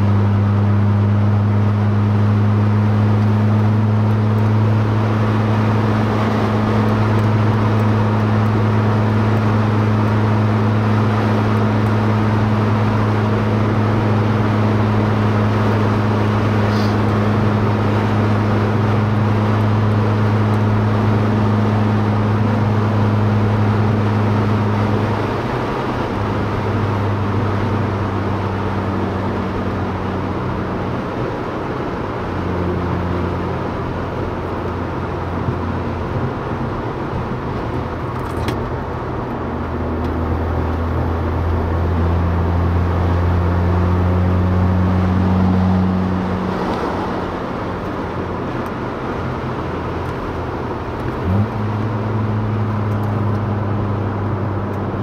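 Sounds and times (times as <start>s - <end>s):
rotary engine running from inside car: 0.0s - 55.0s.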